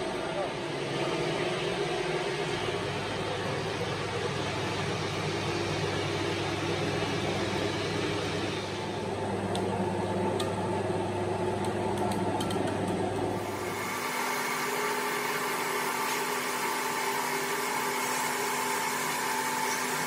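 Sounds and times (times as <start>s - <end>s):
cutting machinery humming: 0.0s - 20.0s.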